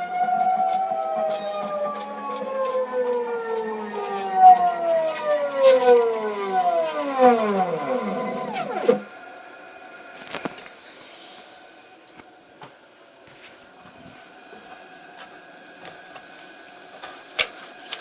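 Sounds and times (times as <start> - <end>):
machine motor whine winding down: 0.0 - 18.0.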